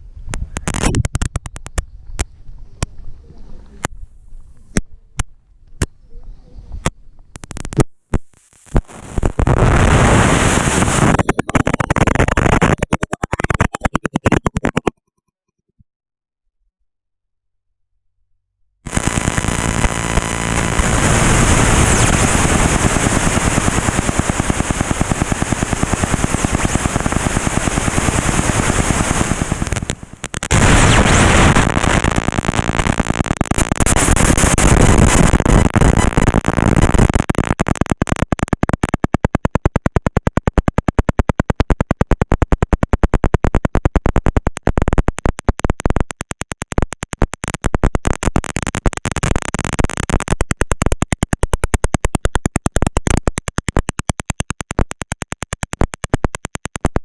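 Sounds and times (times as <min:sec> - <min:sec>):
loud crackling noise: 0:00.3 - 0:02.3, 0:06.8 - 0:15.0, 0:18.9 - 0:57.0
rapid stuttering clicks: 0:00.4 - 0:02.3, 0:07.4 - 0:15.2, 0:18.9 - 0:57.0.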